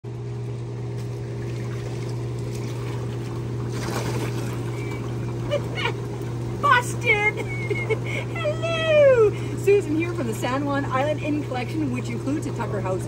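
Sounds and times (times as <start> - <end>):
pump hum: 0.0 - 13.0
churning bubbling water: 0.1 - 13.0.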